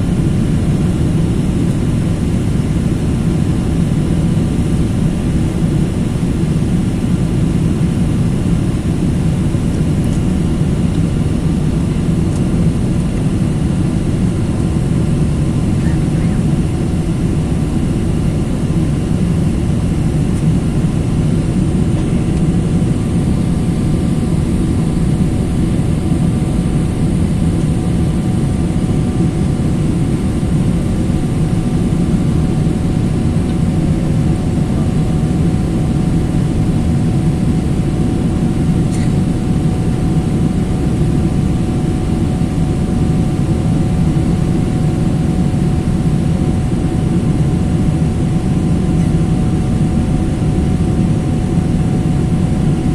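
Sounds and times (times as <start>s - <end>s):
faint hum: 0.0s - 52.9s
jet cabin engine roar: 0.0s - 52.9s.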